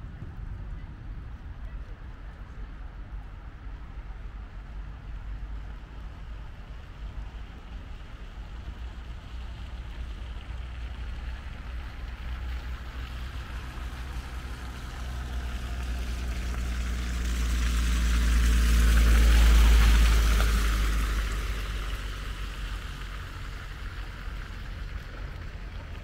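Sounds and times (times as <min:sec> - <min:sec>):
constant low rumble: 0:00.0 - 0:26.0.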